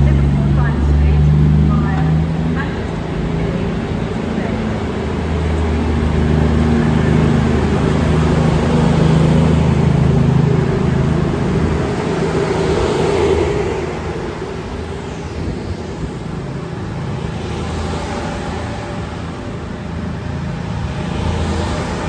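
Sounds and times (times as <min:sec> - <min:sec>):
diesel train engines droning: 0:00.0 - 0:22.0.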